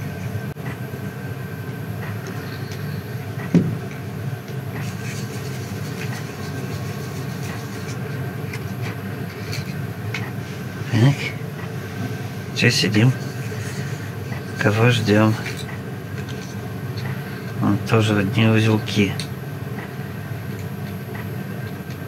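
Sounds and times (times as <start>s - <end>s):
low mechanical drone: 0.0s - 22.0s.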